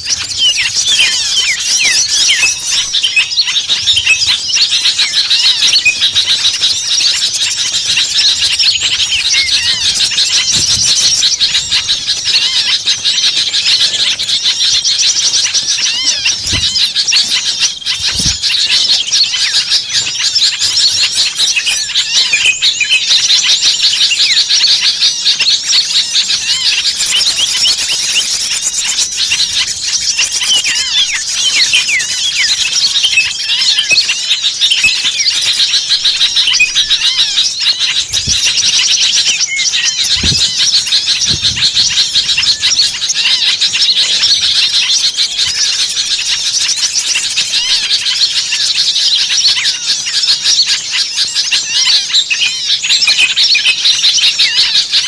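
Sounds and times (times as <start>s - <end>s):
small birds chirping and trilling: 0.0s - 55.0s.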